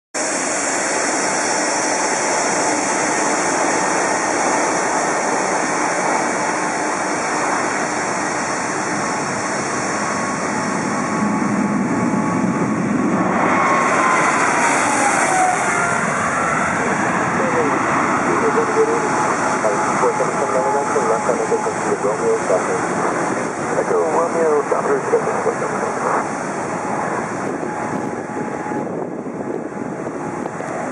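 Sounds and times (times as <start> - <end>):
jet engine whine falling in pitch: 0.2 - 30.9
jet engines at takeoff: 0.2 - 30.9.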